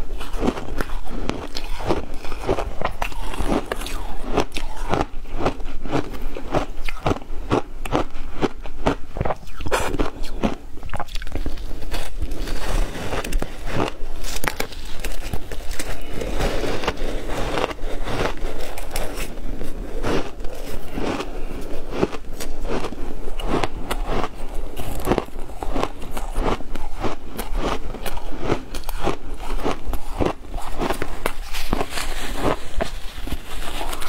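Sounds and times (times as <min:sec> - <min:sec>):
ice being chewed: 0:00.0 - 0:34.0.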